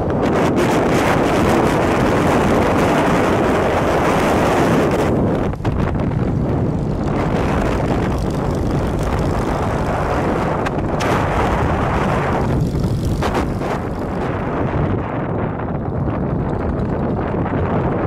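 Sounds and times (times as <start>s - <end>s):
motorcycle engine: 0.0s - 18.0s
wind on microphone: 0.0s - 18.0s.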